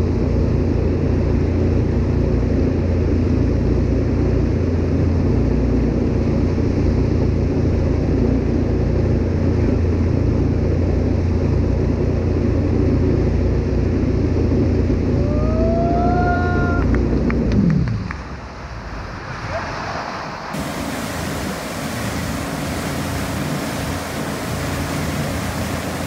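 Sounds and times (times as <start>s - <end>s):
boat engine droning: 0.2s - 26.0s.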